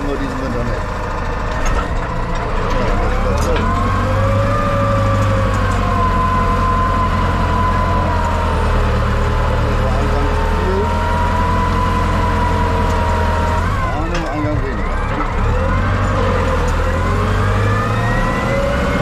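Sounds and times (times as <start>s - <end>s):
tractor engine drone: 0.0s - 19.0s.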